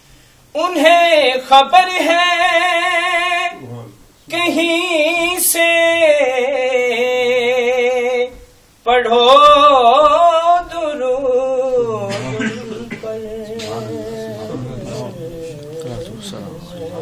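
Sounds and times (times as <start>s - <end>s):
man reciting melodically: 0.5s - 17.0s.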